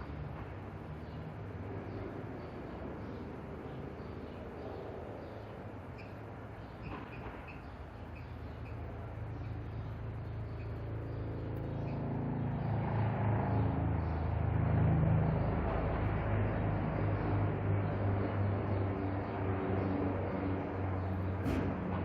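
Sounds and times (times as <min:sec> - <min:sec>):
vehicle engine approaching: 0:00.0 - 0:22.0.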